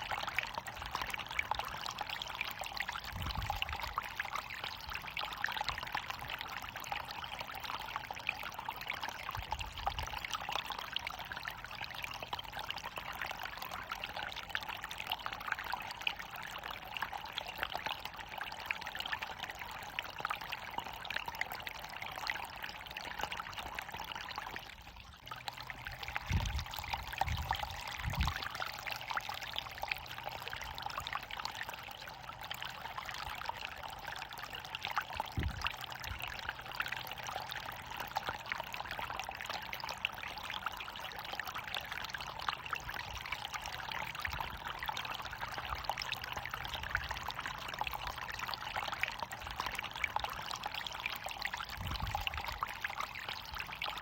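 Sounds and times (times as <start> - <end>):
water pouring and splashing: 0.0 - 15.4, 16.2 - 54.0.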